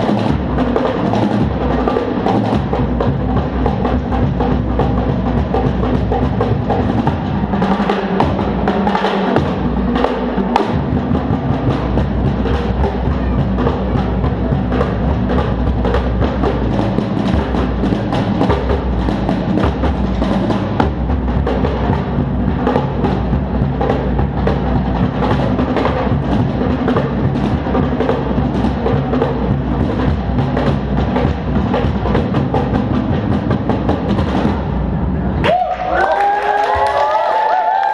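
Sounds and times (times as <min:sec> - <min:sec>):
fast live drumming: 0:00.0 - 0:35.4.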